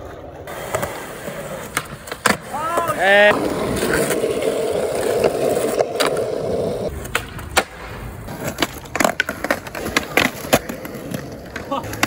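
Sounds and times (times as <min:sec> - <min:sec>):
skateboard deck clacking on concrete: 0:00.0 - 0:12.0
skateboard wheels rolling on asphalt: 0:00.0 - 0:12.0.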